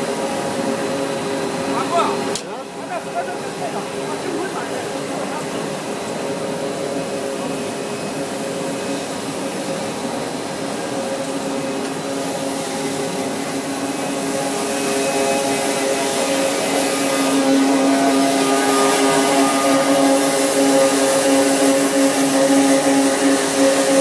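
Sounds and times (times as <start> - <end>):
machine hum: 0.0 - 24.0
whining machine tones: 0.0 - 24.0
hiss: 3.0 - 24.0.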